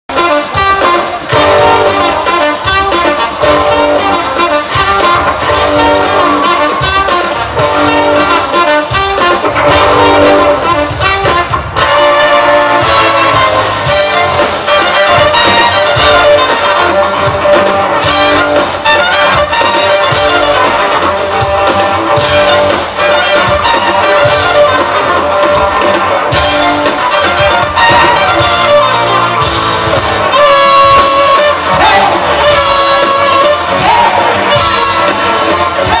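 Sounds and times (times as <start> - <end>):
bass: 0.1 - 36.0
brass horns and saxophone: 0.1 - 36.0
drum kit: 0.1 - 36.0
electric guitars: 0.1 - 36.0.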